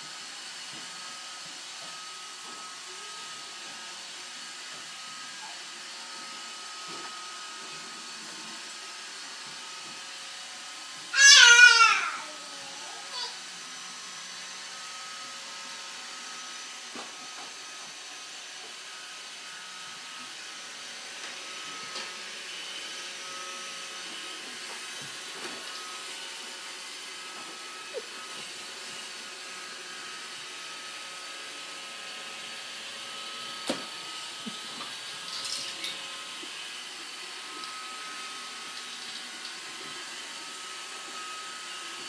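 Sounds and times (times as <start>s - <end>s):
robot vacuum whirring: 0.5s - 42.0s.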